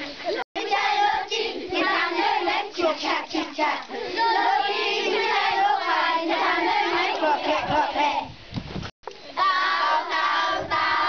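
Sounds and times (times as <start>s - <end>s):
children singing: 0.0s - 8.3s, 9.4s - 11.0s.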